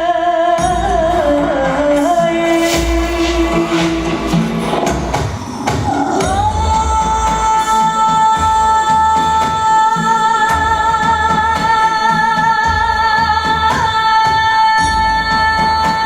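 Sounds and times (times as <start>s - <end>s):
dance music beat: 1.0s - 14.5s.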